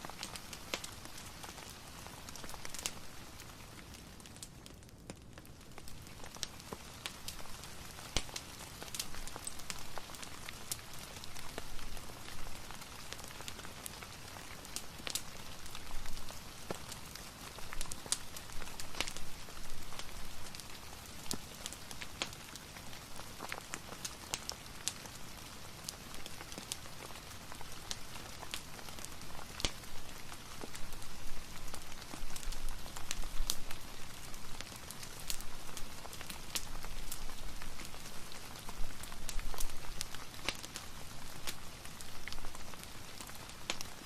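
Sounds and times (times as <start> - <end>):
fireplace crackling and popping: 0.0 - 44.0
steady rain hiss: 0.0 - 44.0.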